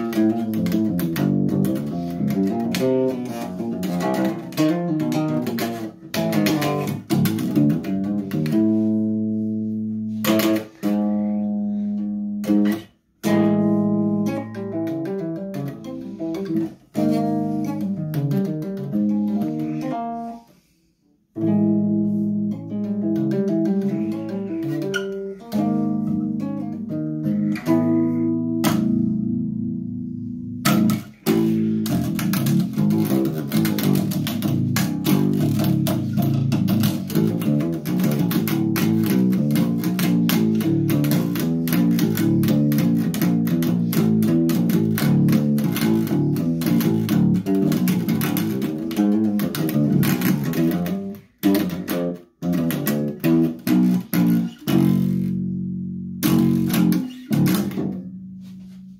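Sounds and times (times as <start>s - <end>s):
electric bass guitar solo: 0.0s - 20.6s, 21.3s - 58.9s.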